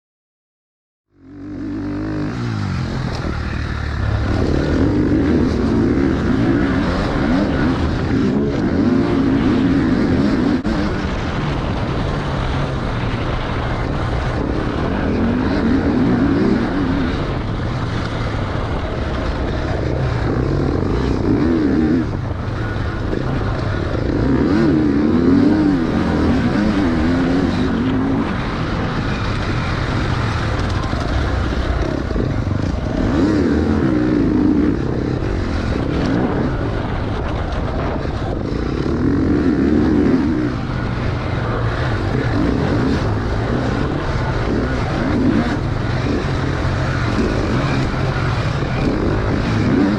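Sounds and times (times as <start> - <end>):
dirt bike engine revving: 1.1 - 49.9.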